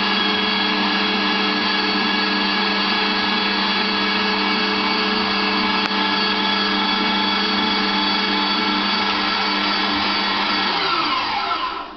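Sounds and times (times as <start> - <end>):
electric meat grinder motor hum: 0.0 - 11.9.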